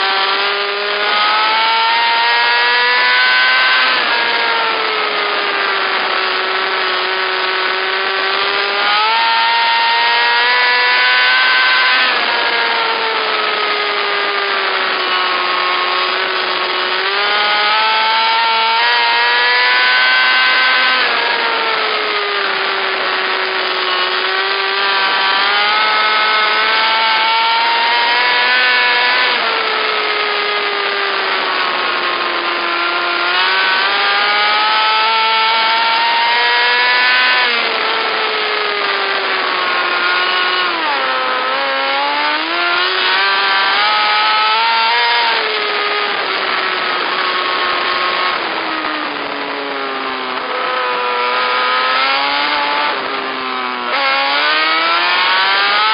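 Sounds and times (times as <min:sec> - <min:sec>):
racing car engines revving: 0:00.0 - 0:55.9.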